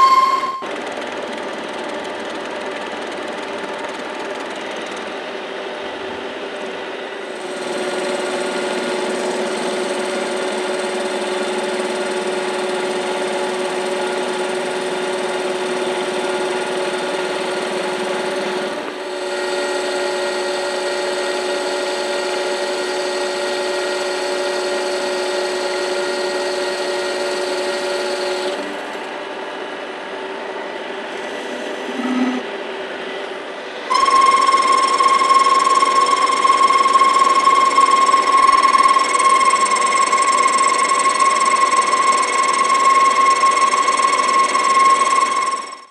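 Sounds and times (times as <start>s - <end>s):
louder machine whine: 0.0s - 45.9s
metal lathe whine: 0.0s - 45.9s.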